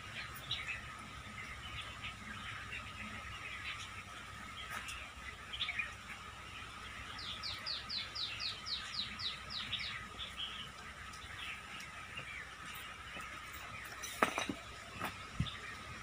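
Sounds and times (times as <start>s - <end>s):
bird singing downward notes: 0.0s - 16.0s
birds chirping: 0.0s - 16.0s.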